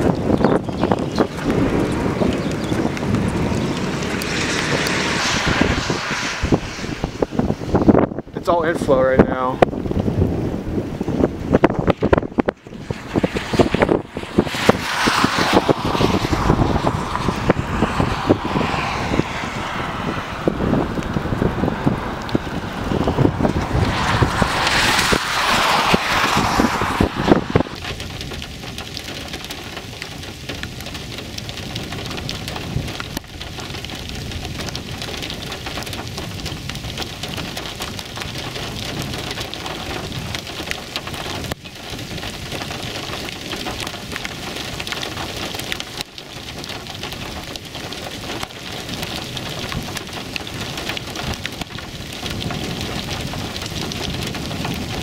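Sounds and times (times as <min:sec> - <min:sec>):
rain pattering: 0:00.0 - 0:55.0
wind buffeting microphone: 0:00.0 - 0:55.0.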